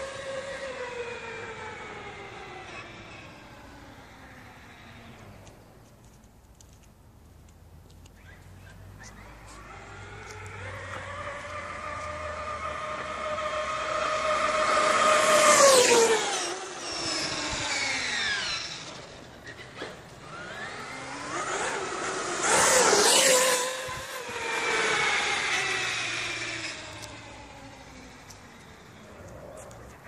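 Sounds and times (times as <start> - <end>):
electric motor whining past: 0.0 - 5.6, 9.1 - 29.6.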